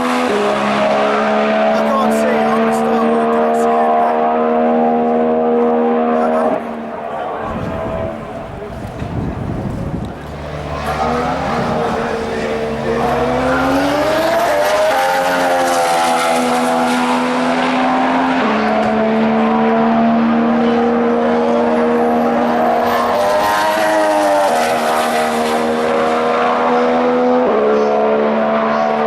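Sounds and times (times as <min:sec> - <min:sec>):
race car engine at high revs: 0:00.0 - 0:29.0.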